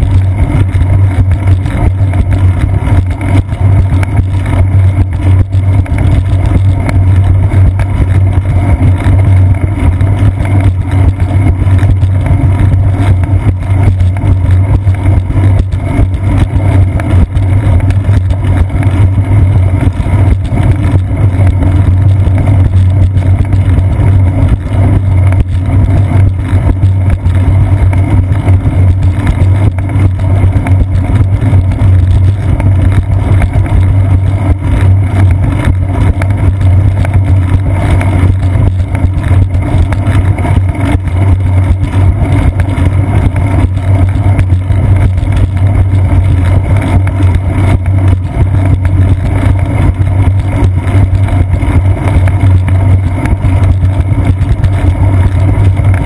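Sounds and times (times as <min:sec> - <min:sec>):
bicycle vibration and wind rumble: 0:00.0 - 0:56.0.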